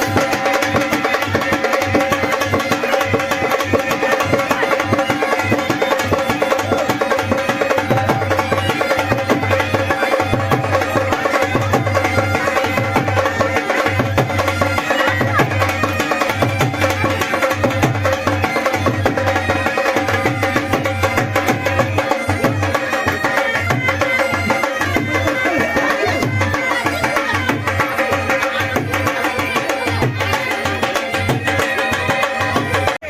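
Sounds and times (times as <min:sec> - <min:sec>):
music with busy drum percussion: 0:00.0 - 0:33.0.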